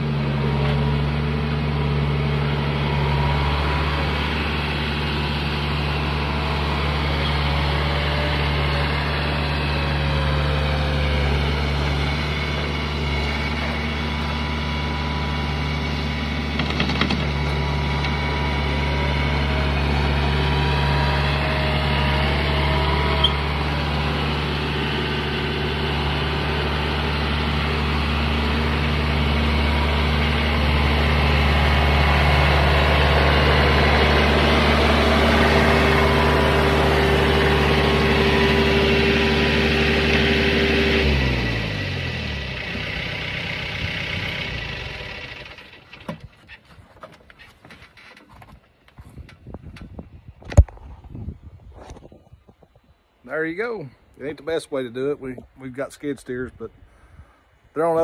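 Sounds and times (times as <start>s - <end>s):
tractor diesel engine running: 0.0s - 51.6s
faint engine whine: 0.0s - 58.0s.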